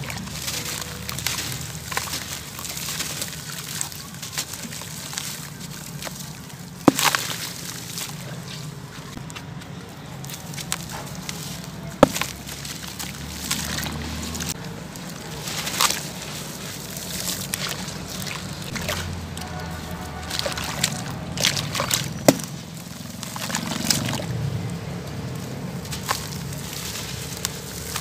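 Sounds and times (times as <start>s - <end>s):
gritty crumbling by hand: 0.0s - 28.0s
water sloshing in a basin: 0.0s - 28.0s.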